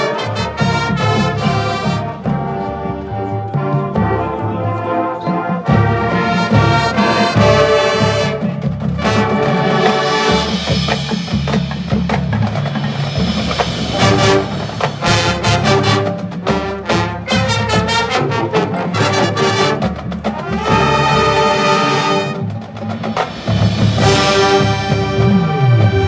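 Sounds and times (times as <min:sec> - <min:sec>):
brass chords: 0:00.0 - 0:11.2, 0:13.4 - 0:26.0
drumline percussion: 0:00.0 - 0:26.0.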